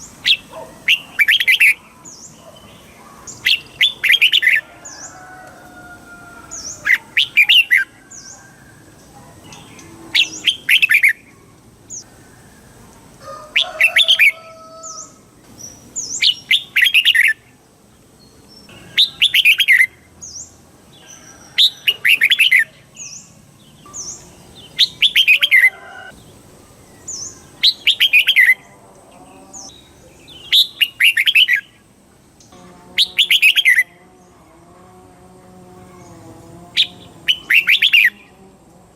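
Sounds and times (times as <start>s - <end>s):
bird warbling song: 0.0s - 5.6s, 6.4s - 12.6s, 13.6s - 17.6s, 18.2s - 34.5s, 35.8s - 38.4s.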